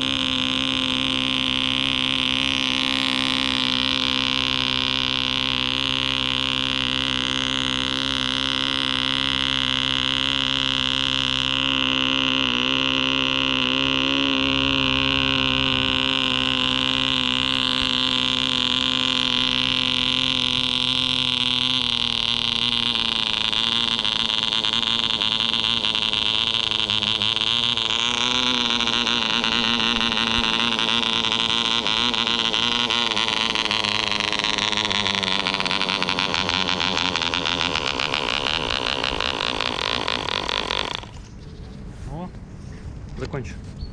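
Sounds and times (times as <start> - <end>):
model aircraft engine running: 0.0 - 42.6.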